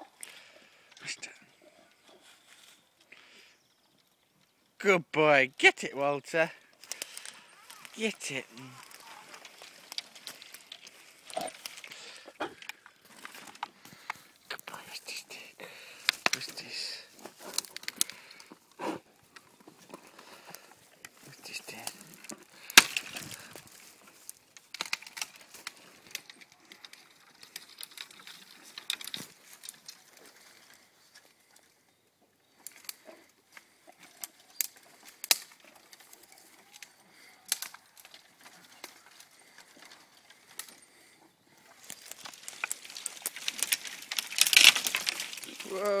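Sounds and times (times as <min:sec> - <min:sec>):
rustling twigs: 0:00.0 - 0:04.8, 0:05.6 - 0:46.0
dog crunching branches: 0:06.8 - 0:30.9, 0:32.7 - 0:46.0.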